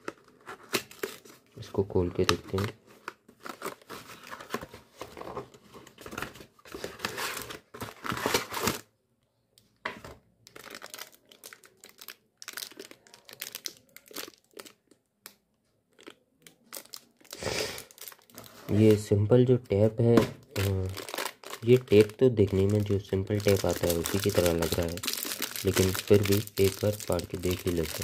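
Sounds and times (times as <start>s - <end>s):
plastic packaging crinkling: 0.0s - 8.9s, 10.4s - 19.1s, 20.6s - 28.0s.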